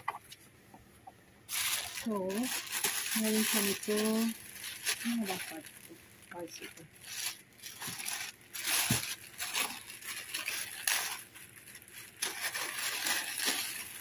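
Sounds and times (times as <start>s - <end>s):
plastic bag crinkling: 1.5s - 14.0s.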